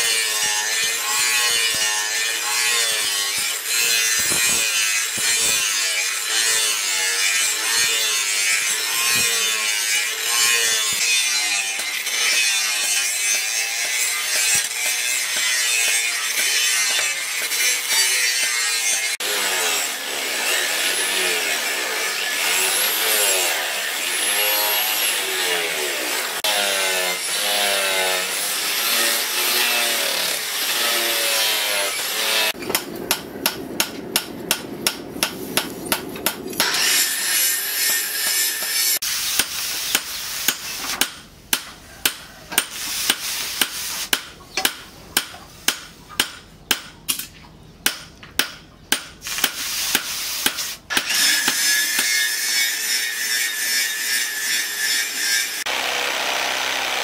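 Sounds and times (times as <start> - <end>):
angle grinder grinding steel: 0.0 - 32.9, 35.2 - 41.0, 49.3 - 57.0.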